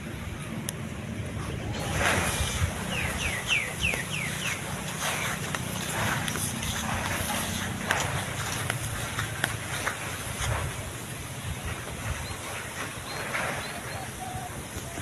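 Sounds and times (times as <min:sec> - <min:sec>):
cow tearing and chewing grass: 0:01.2 - 0:15.0.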